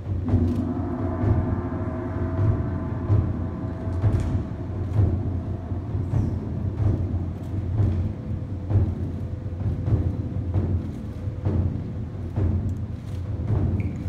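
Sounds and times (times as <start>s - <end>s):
large barrel drums beating: 0.0s - 14.0s.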